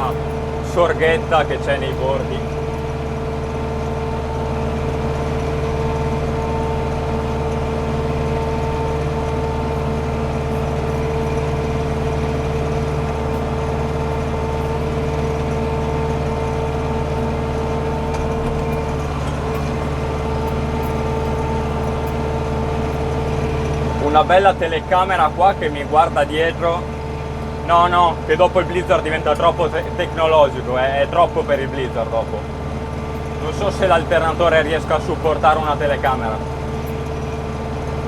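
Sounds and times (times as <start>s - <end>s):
flail mower whine: 0.0s - 38.0s
tractor engine running: 0.0s - 38.0s.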